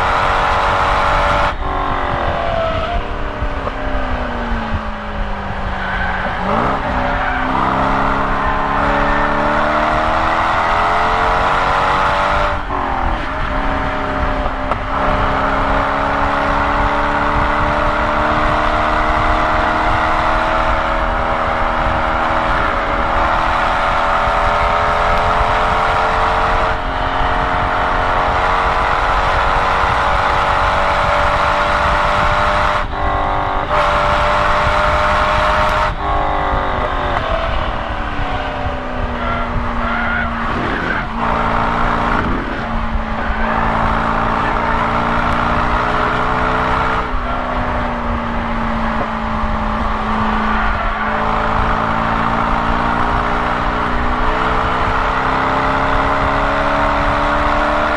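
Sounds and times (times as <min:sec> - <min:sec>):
car engine revving hard: 0:00.0 - 0:57.9.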